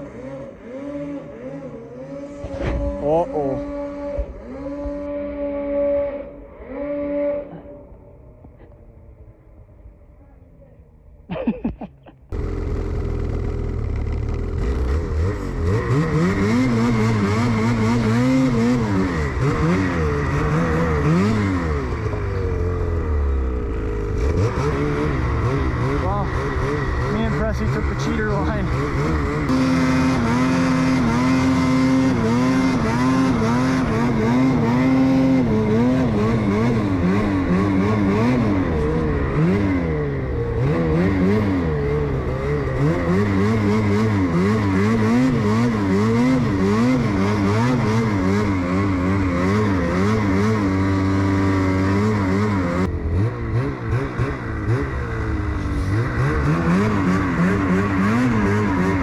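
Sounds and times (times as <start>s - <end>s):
snowmobile engine revving: 0.0s - 8.8s, 11.3s - 59.0s.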